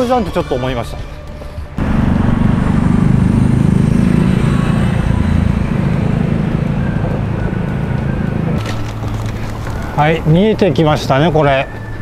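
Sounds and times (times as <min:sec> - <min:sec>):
street traffic: 0:00.0 - 0:12.0
vehicle engine running: 0:01.8 - 0:12.0.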